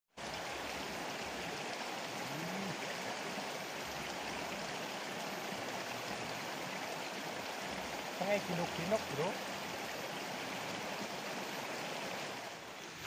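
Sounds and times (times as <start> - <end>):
river flowing: 0.1 - 13.0.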